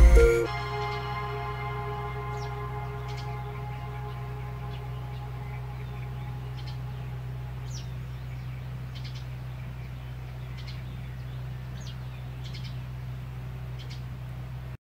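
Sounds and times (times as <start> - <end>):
high bird chirps: 0.0 - 12.9, 13.8 - 14.1
steady low hum: 0.0 - 14.8.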